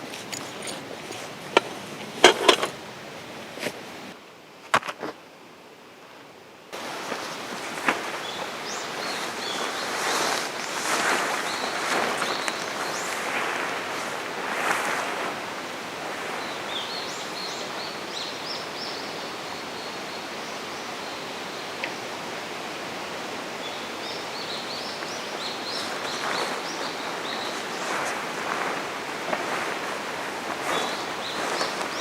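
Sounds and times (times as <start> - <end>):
steady rushing hiss: 0.0 - 32.0.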